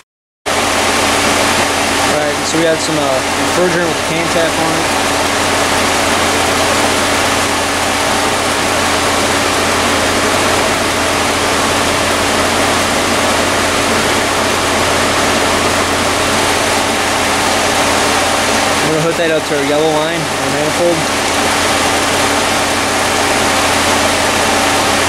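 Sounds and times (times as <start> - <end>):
cooling fans rushing: 0.5 - 25.0
engine idling hum: 0.5 - 25.0.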